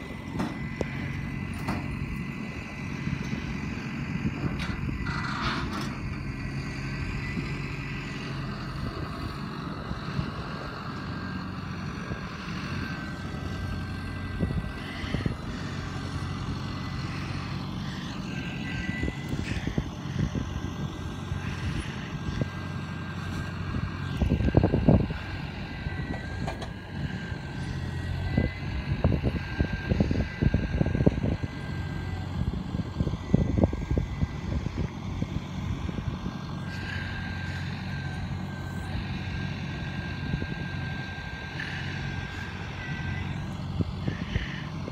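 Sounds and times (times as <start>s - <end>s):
tractor engines running: 0.0s - 44.9s.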